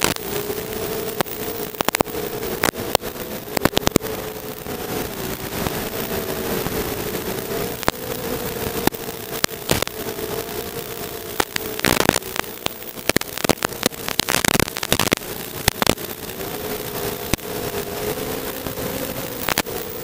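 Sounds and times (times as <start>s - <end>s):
crackling pops and clicks: 0.0s - 17.8s, 18.6s - 20.0s
drone motors whining: 0.0s - 20.0s.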